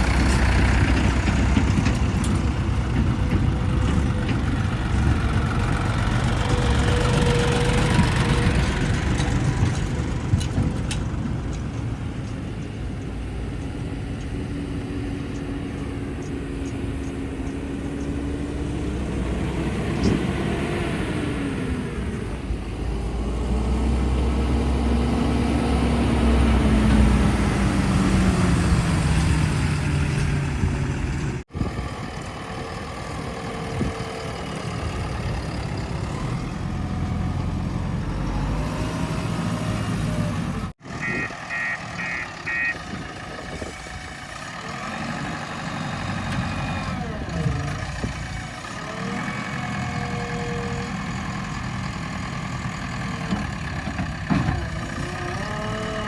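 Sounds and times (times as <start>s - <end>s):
diesel engines revving: 0.0s - 56.0s.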